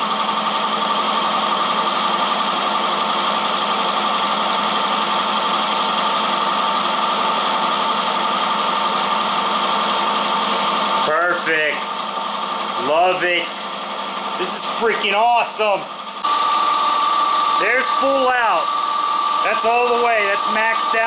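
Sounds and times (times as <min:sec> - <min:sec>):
motor driving a mill whining: 0:00.0 - 0:21.0.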